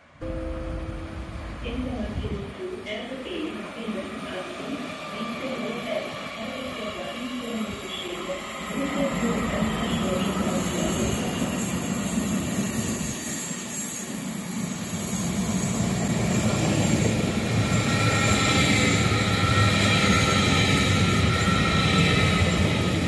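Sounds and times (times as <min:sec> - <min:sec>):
high-pitched train whine: 0:00.0 - 0:23.0.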